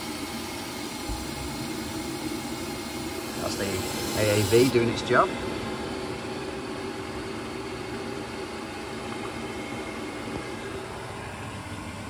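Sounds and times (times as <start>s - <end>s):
boiler humming and hissing: 0.0s - 12.0s.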